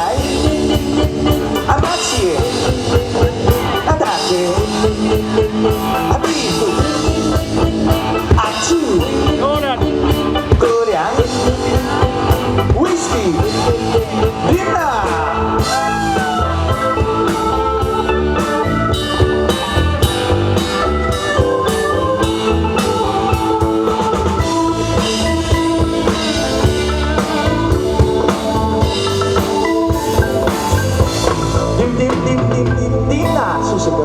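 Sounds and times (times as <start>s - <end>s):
drum kit: 0.0s - 34.0s
guitar playing rock groove: 0.0s - 34.0s.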